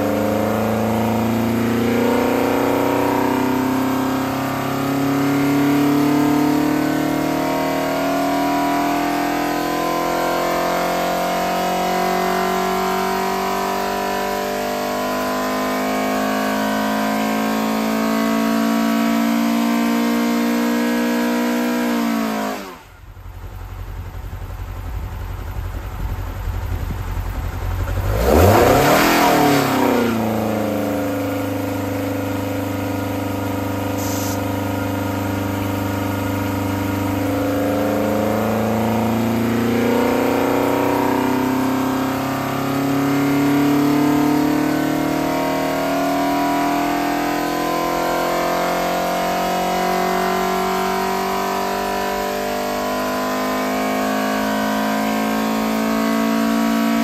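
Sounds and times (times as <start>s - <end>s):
race engine revving on dyno: 0.0s - 23.0s, 27.8s - 57.0s.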